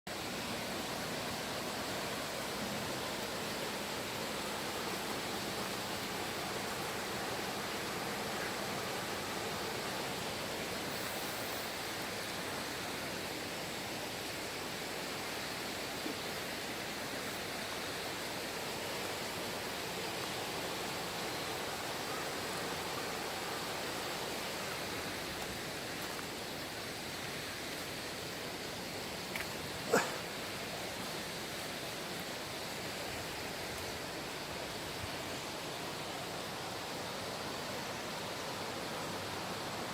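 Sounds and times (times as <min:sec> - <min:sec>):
stream rushing: 0:00.1 - 0:39.9.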